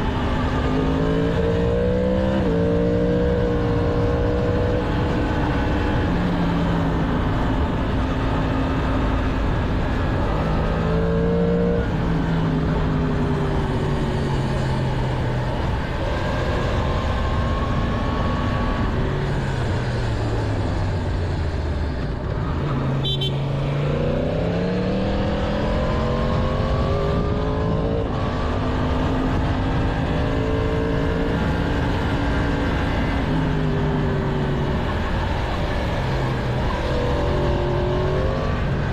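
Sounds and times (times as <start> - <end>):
motorcycle engine accelerating: 0.0 - 38.9
road and wind noise: 0.0 - 38.9.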